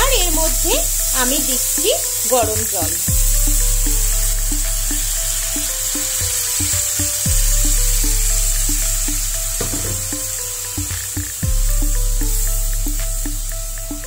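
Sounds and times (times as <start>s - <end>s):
background music: 0.0s - 14.0s
water sizzling in hot pan: 0.0s - 14.0s.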